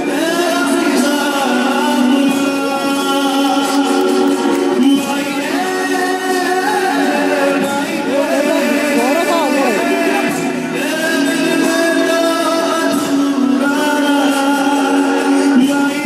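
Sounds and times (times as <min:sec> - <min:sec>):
man singing: 0:00.0 - 0:16.0
musical accompaniment: 0:00.0 - 0:16.0.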